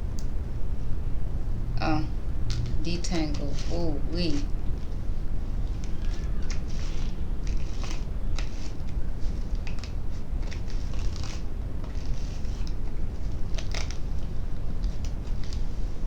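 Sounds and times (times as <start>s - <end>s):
hair crackling and rustling: 2.5s - 16.0s.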